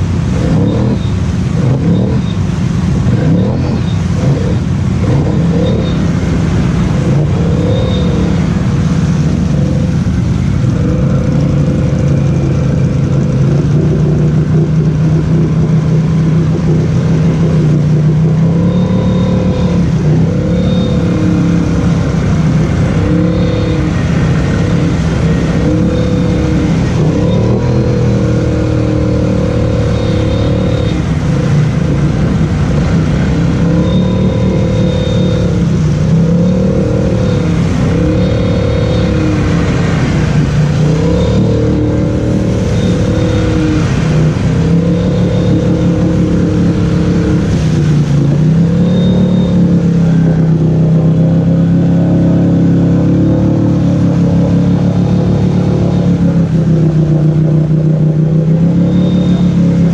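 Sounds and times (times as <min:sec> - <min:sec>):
atv engine pulling through mud: 0:00.0 - 0:59.9.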